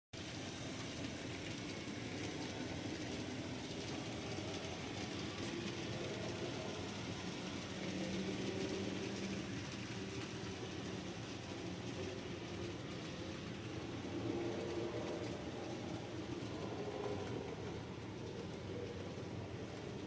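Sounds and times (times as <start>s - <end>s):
model train running on track: 0.1s - 20.0s.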